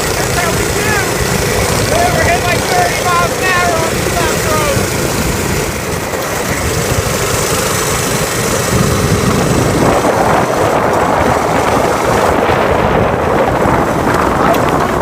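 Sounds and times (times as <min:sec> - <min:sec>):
small bike engine: 0:00.0 - 0:15.0
wind rumble on microphone: 0:00.0 - 0:15.0.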